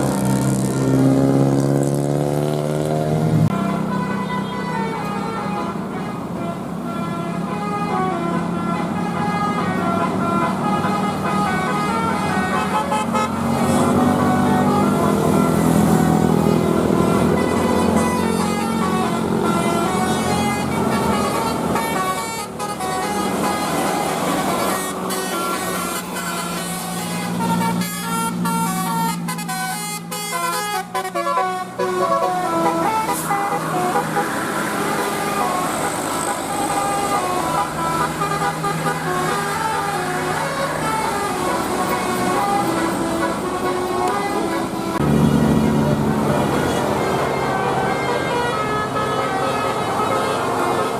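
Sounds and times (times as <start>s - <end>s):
bus engine hum: 0.0s - 50.9s
bus musical horn melody: 0.0s - 50.9s.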